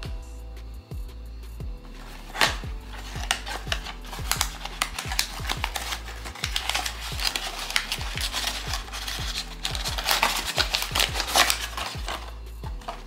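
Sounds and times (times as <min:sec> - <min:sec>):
background music with low beat: 0:00.0 - 0:13.0
hands handling plastic packaging: 0:01.8 - 0:13.0.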